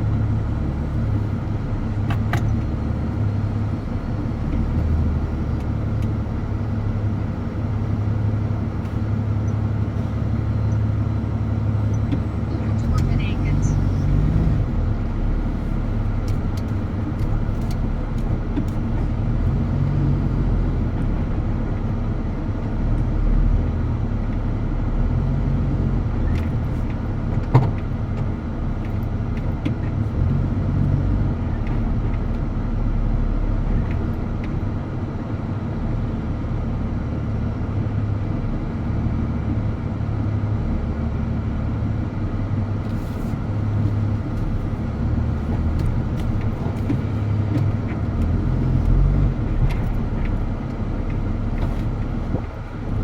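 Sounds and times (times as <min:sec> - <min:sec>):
truck diesel engine drone: 0:00.0 - 0:53.0.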